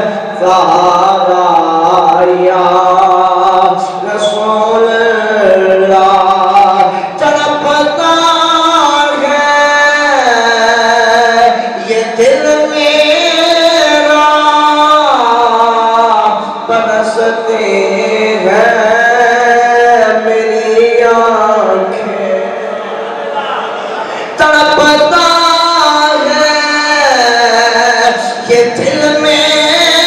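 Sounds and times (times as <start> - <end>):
man chanting: 0.0 - 22.8, 24.3 - 30.0.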